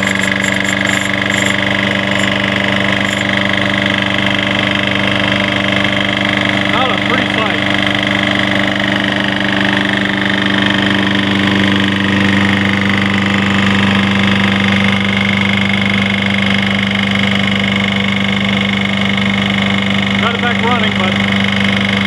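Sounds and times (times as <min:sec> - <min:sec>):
engine knocking: 0:00.0 - 0:22.0
lawn mower engine running: 0:00.0 - 0:22.0.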